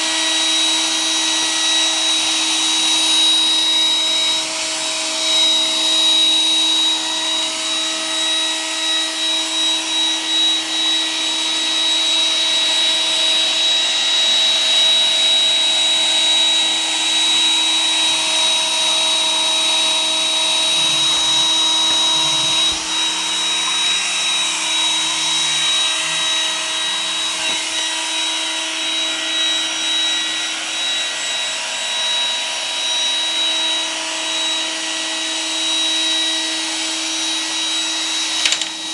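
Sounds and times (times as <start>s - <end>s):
robot vacuum running: 0.0s - 38.9s.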